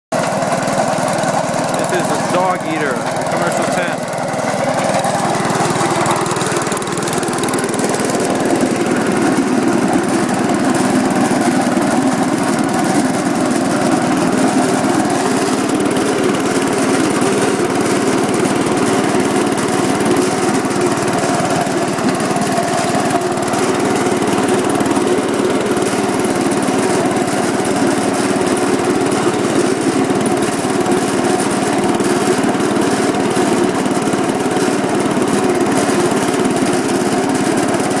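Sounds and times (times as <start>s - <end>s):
tractor engine running: 0.1s - 38.0s
snowblower throwing snow: 0.2s - 38.0s.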